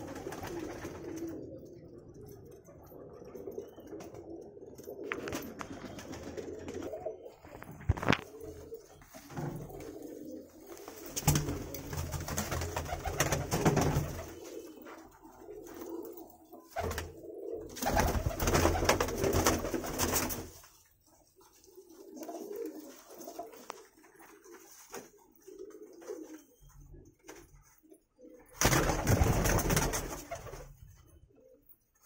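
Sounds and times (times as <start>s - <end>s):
pigeons cooing: 0.0s - 20.3s, 21.2s - 32.0s.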